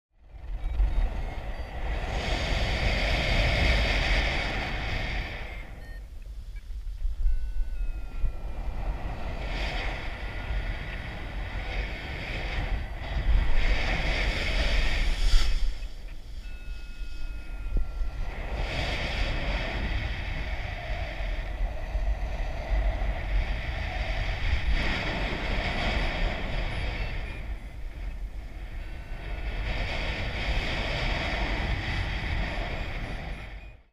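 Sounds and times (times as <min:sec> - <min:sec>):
wind buffeting microphone: 0:00.2 - 0:33.9.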